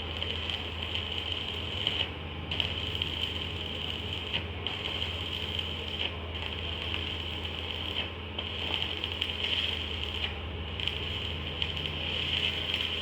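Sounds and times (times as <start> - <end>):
machine humming and pulsing: 0.0 - 13.0.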